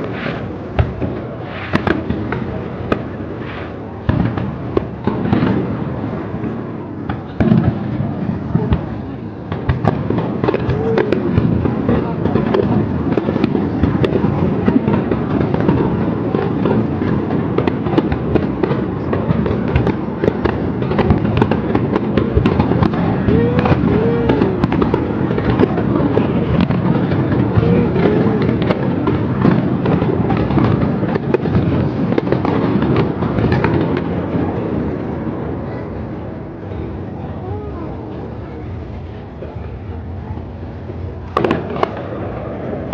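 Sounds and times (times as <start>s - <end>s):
fireworks crackling and popping: 0.0s - 36.3s, 39.3s - 42.9s.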